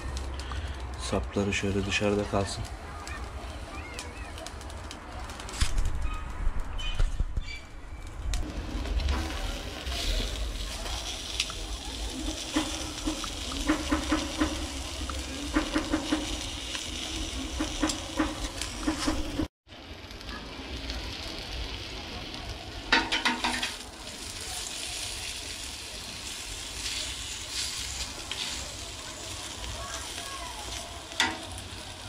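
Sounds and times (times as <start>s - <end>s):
meat sizzling on grill: 0.0s - 5.8s, 8.2s - 32.0s.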